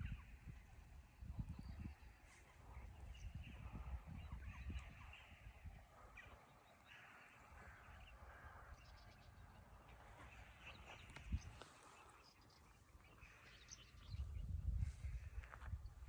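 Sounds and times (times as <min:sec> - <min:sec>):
faint bird calls: 0:00.0 - 0:16.0.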